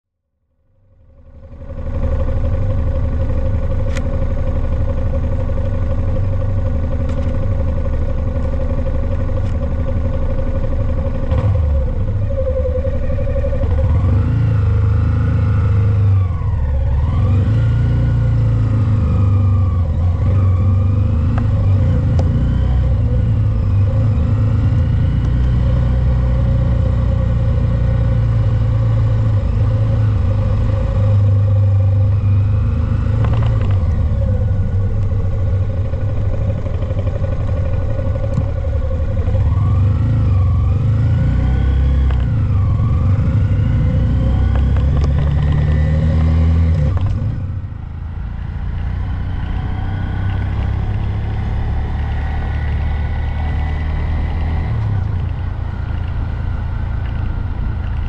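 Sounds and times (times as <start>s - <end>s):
motorcycle engine running: 0.5s - 58.0s.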